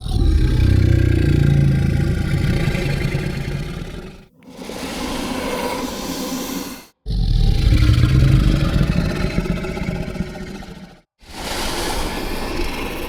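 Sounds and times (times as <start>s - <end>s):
breathy growl: 0.0s - 11.1s
low rough monster growl: 0.0s - 11.1s.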